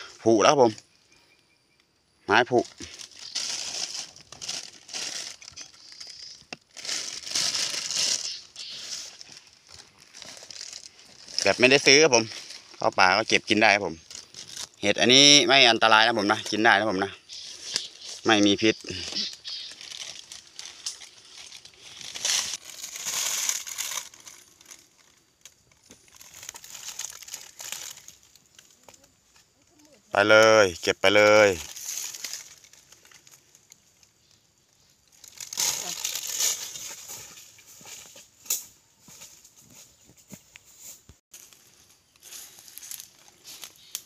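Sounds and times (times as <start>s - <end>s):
dry leaves rustling and crackling: 2.5s - 30.4s, 31.1s - 34.4s, 35.0s - 40.1s, 40.8s - 44.0s.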